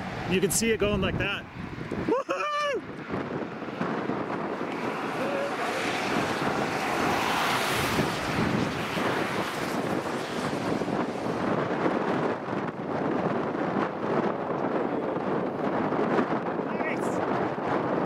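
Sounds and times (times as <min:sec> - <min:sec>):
strong wind on microphone: 0:00.0 - 0:18.0.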